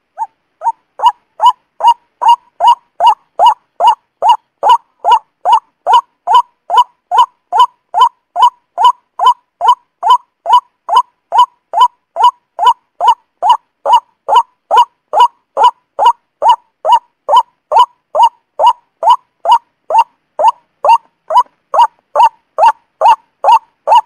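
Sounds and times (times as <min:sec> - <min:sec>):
bird calls: 0:00.0 - 0:24.0.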